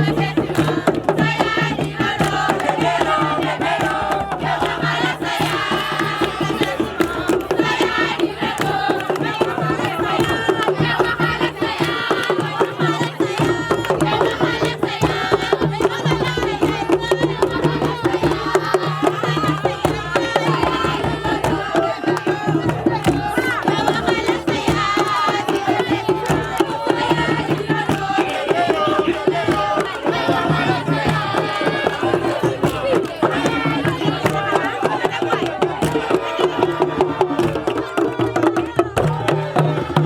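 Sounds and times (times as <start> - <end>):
fast hand drumming: 0.0 - 40.0
several voices singing: 0.0 - 40.0.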